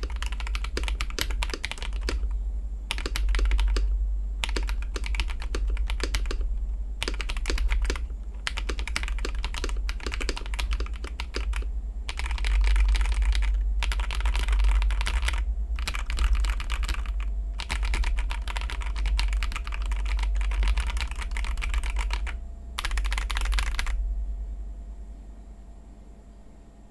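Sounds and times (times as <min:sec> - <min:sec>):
mechanical keyboard typing: 0:00.0 - 0:24.0
steady low hum: 0:00.0 - 0:26.9.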